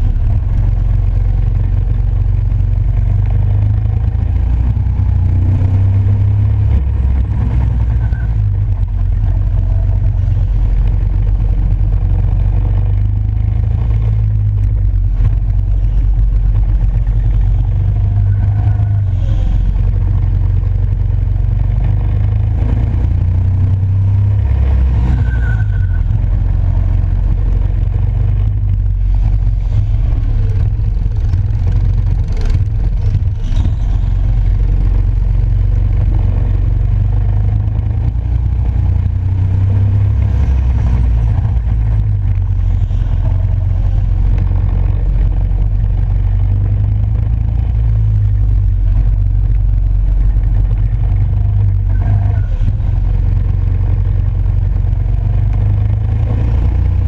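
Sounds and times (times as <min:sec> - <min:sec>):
go-kart engine rumbling: 0:00.0 - 0:57.0.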